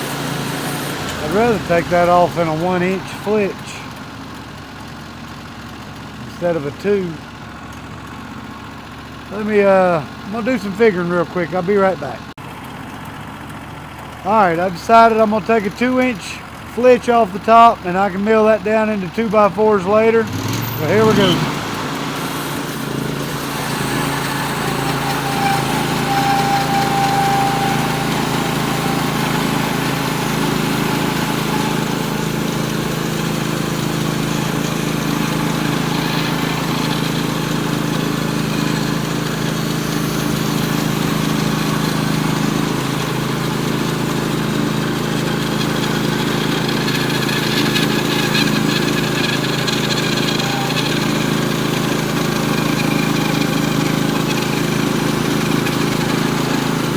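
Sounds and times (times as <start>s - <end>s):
bandsaw mill cutting log: 0.0s - 56.9s.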